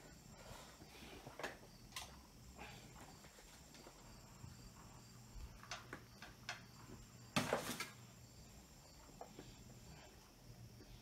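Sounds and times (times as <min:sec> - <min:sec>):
ceiling fan humming: 0:00.0 - 0:11.0.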